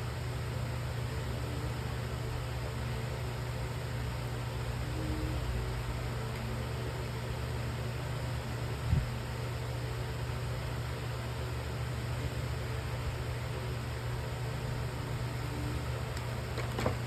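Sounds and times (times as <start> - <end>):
low hum with hiss: 0.0 - 17.0.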